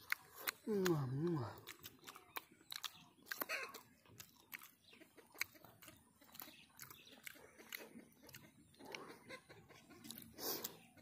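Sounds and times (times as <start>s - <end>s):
mouth clicks and smacks: 0.0s - 9.2s, 10.0s - 10.8s
chewing soft pasta: 0.0s - 11.0s.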